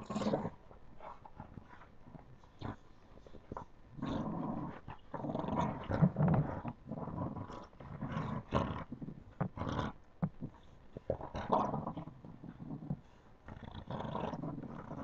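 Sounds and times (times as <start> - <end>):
puppies growling: 0.0 - 15.0.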